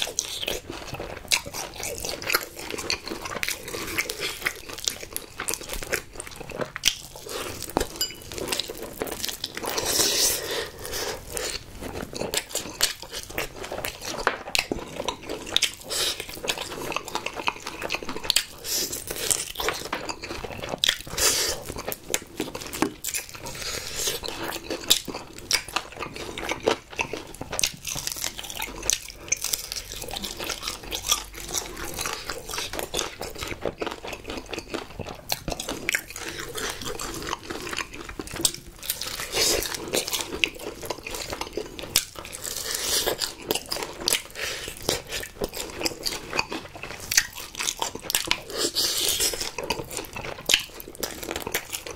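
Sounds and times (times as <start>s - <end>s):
crunching fried chicken: 0.0s - 51.9s
wet chewing: 0.0s - 51.9s.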